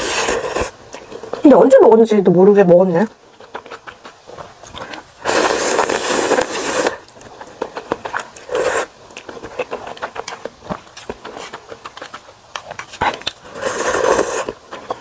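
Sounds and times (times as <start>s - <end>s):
slurping noodles: 0.0s - 1.4s, 3.4s - 15.0s
chewing: 0.0s - 1.5s, 3.0s - 15.0s.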